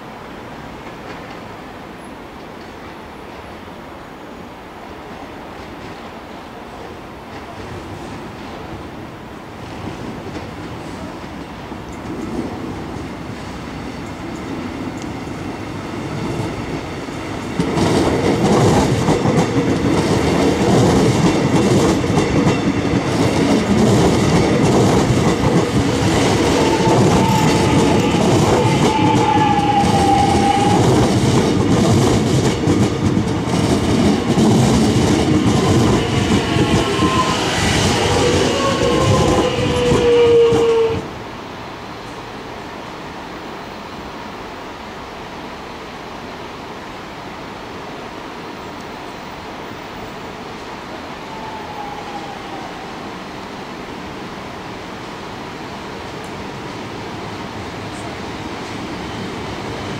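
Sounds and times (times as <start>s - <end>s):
train wheels rumbling on rail: 0.0s - 3.6s, 5.0s - 47.3s, 49.0s - 59.9s.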